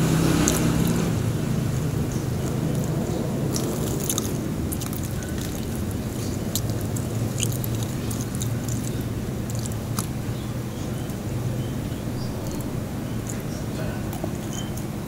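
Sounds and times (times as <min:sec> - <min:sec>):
steady low hum: 0:00.0 - 0:15.0
crispy pork skin crackling: 0:00.2 - 0:15.0.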